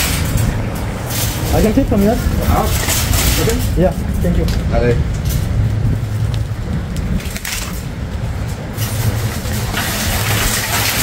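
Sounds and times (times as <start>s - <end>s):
low urban rumble: 0.0s - 11.0s.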